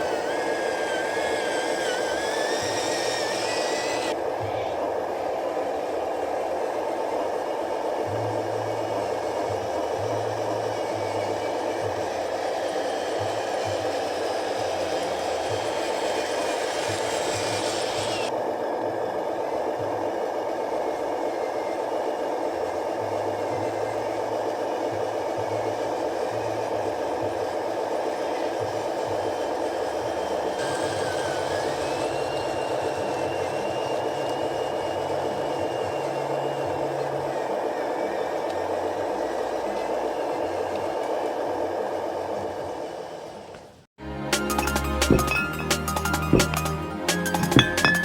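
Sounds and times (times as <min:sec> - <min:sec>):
small electric motors whirring: 0:00.0 - 0:19.1, 0:19.9 - 0:43.6.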